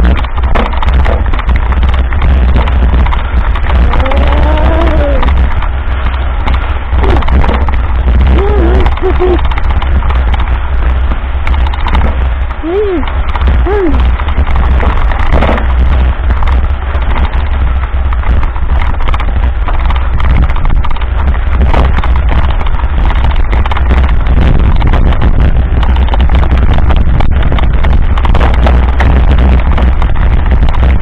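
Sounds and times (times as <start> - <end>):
bike rattling over ruts: 0.0 - 31.0
wind buffeting microphone: 0.0 - 31.0.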